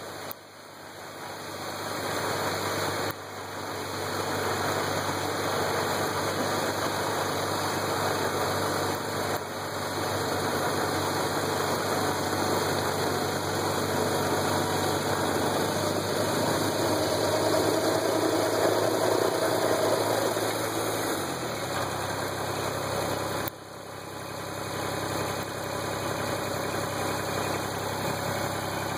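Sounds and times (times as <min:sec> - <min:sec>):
snow thrower churning snow: 0:00.0 - 0:28.9
tractor diesel engine under load: 0:00.0 - 0:28.9.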